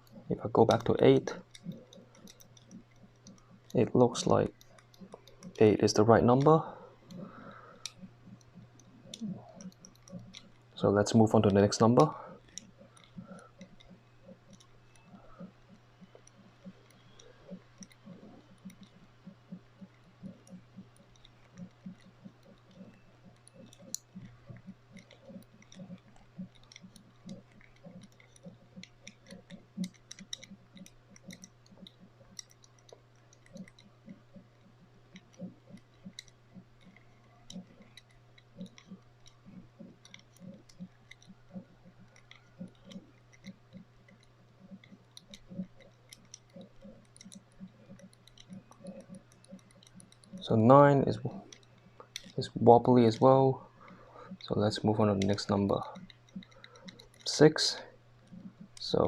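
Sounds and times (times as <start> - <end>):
padlock wheel faint clicks: 0.0 - 59.0.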